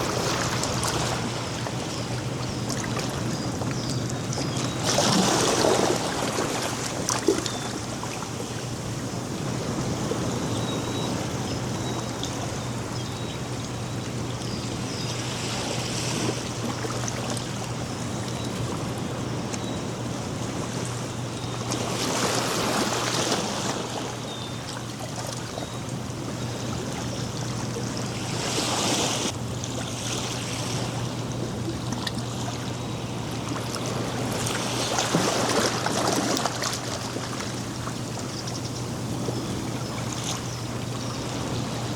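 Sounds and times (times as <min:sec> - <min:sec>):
ocean surf on a beach: 0:00.0 - 0:41.9.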